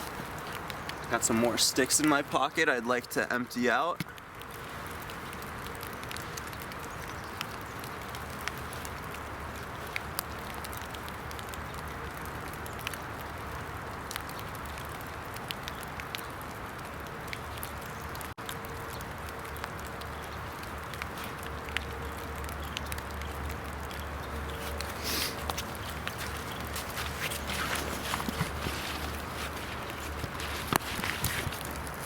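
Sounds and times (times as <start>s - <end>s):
fire crackling and popping: 0.0s - 32.0s
rain: 0.0s - 32.0s.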